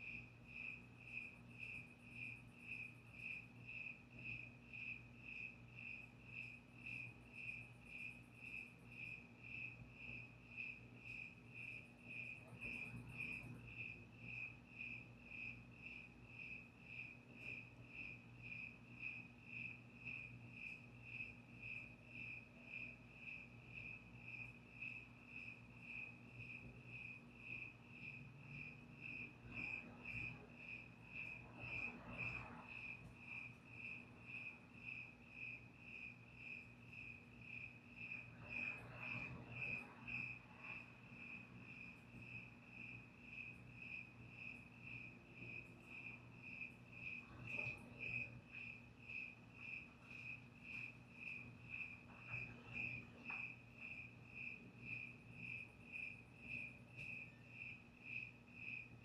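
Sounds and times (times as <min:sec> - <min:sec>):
crickets chirping: 0:00.0 - 0:59.0
faint low hum: 0:00.0 - 0:59.0.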